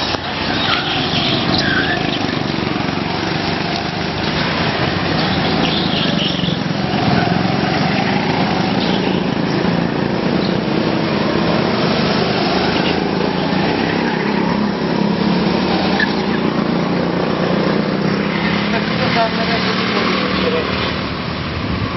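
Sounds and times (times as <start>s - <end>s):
go-kart engines buzzing: 0.0s - 21.9s.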